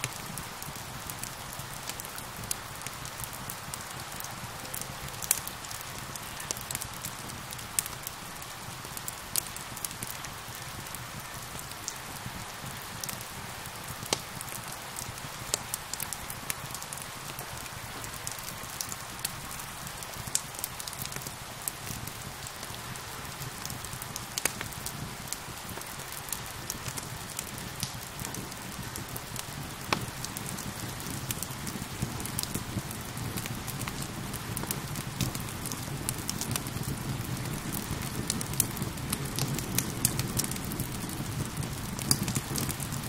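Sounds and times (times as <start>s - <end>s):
steady rain: 0.0s - 43.0s
wood fire crackling: 0.0s - 43.0s.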